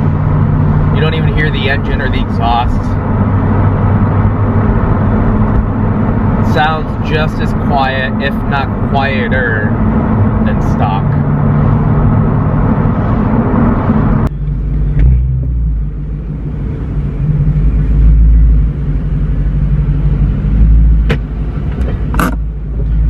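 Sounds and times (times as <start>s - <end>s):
car engine rumble in cabin: 0.0s - 23.0s
road and wind noise: 0.0s - 23.0s.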